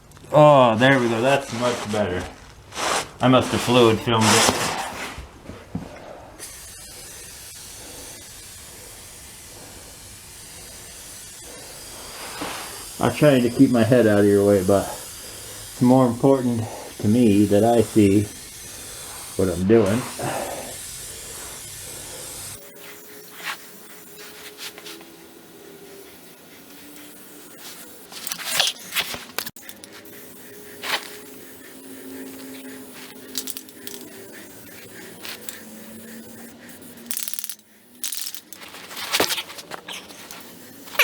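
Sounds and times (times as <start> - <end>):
spray gun hissing: 0.8 - 5.2, 6.4 - 41.0.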